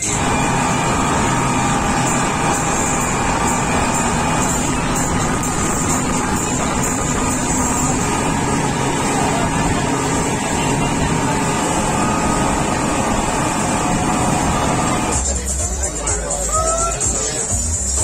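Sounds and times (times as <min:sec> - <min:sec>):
water rushing: 0:00.0 - 0:15.2
speedboat outboard engine: 0:00.0 - 0:15.3.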